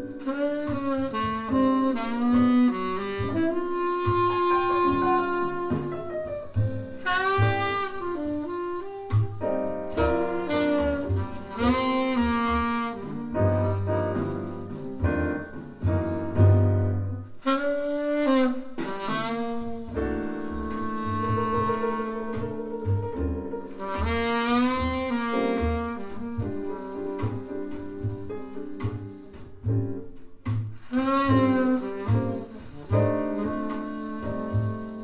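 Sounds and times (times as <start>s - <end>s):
tenor saxophone melody: 0.0s - 29.2s, 30.8s - 35.0s
piano: 0.0s - 35.0s
walking double bass: 0.0s - 35.0s.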